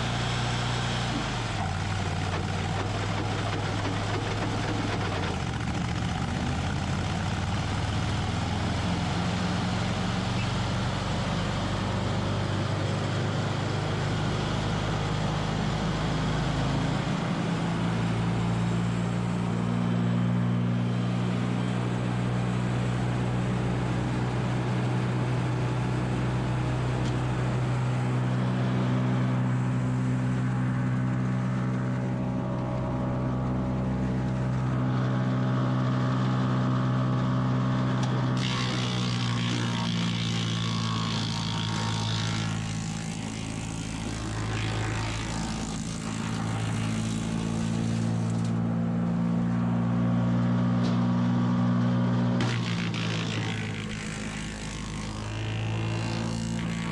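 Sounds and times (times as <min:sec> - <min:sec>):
wood chipper engine running: 0:00.0 - 0:56.9.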